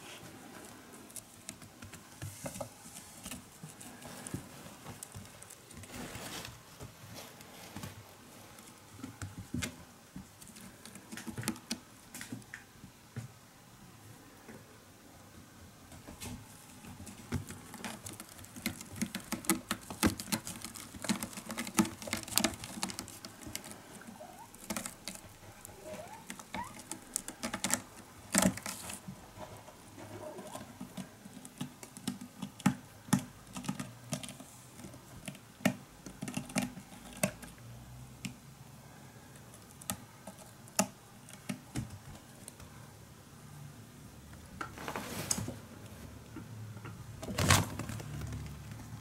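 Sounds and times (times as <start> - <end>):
kittens' claws scratching and tapping: 0.1 - 12.7, 15.9 - 42.7, 46.3 - 49.0.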